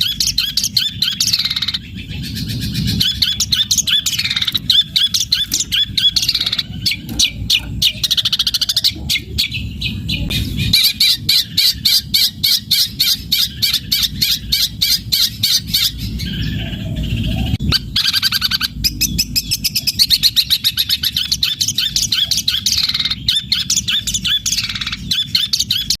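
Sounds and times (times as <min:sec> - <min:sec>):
bird singing rapid high notes: 0:00.0 - 0:26.0.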